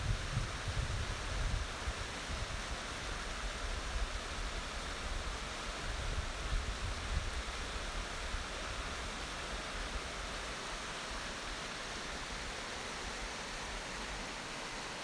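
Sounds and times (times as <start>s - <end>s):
river rushing over rocks: 1.7s - 15.0s.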